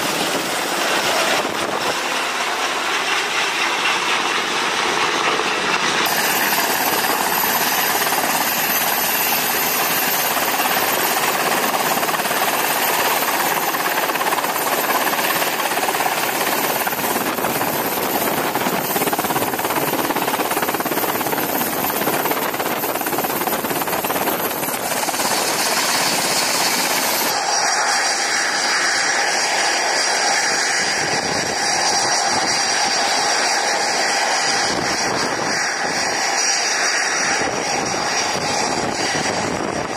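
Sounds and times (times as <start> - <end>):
engine roar with high whining tones: 0.0 - 39.9
helicopter rotor roar: 0.0 - 39.9.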